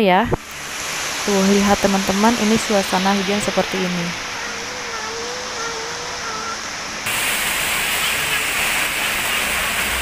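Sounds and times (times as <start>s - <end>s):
heavy rain pouring: 0.4s - 10.0s.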